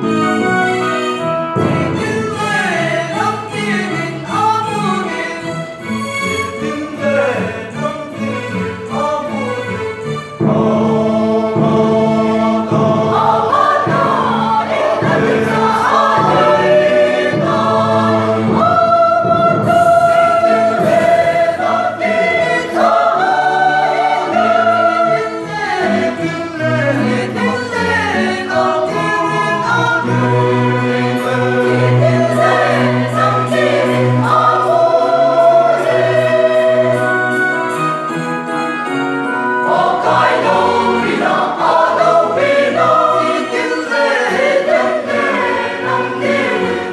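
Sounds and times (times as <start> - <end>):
church choir singing: 0.0 - 46.9.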